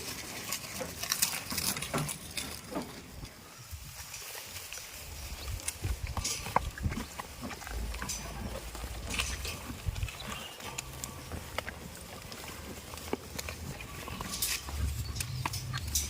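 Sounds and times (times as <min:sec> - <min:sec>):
goats moving about: 0:00.0 - 0:16.0.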